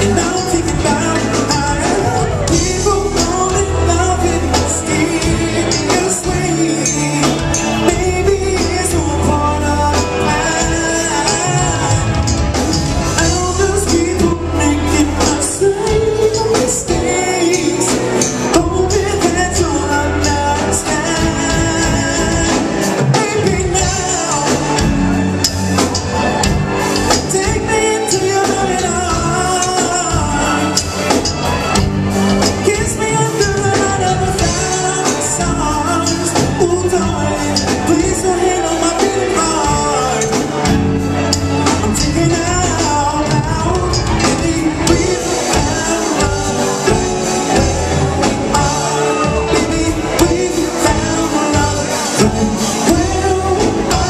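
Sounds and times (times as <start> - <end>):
drum kit: 0.0 - 54.0
electric guitar: 0.0 - 54.0
keyboards: 0.0 - 54.0
man singing: 0.0 - 54.0.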